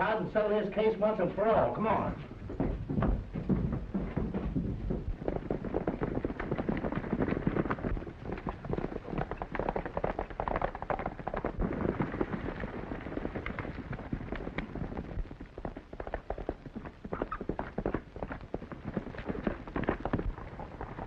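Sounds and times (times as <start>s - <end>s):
horses galloping on dirt: 0.0s - 21.0s.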